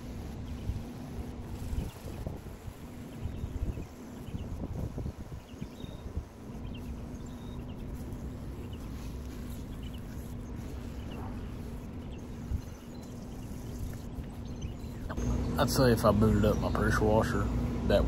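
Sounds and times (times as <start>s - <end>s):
spray wand spraying on wood: 0.0s - 15.3s
steady low hum: 0.0s - 18.0s.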